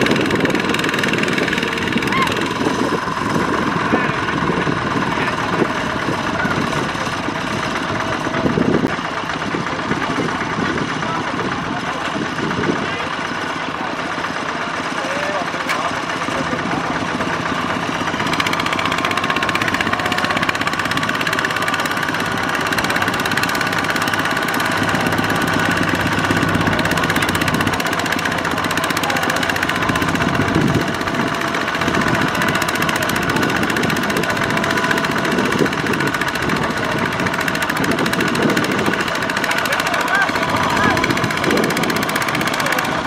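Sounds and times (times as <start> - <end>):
diesel engine running under load: 0.0 - 43.0
wheels churning in mud: 0.0 - 43.0.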